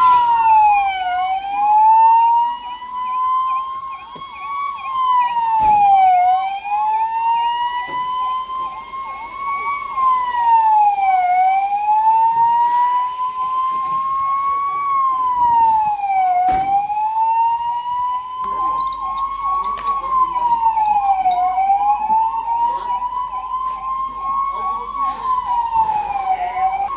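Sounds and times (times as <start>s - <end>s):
siren wailing slowly: 0.0s - 26.9s
siren yelping fast: 0.0s - 26.9s.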